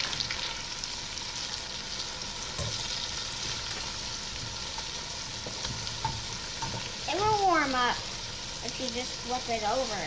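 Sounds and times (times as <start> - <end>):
vegetables sizzling in butter: 0.0 - 10.0.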